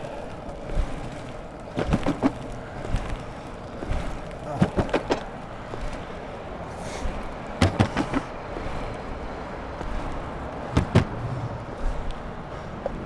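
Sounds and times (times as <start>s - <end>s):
longboard wheels rumbling on pavement: 0.0s - 13.0s.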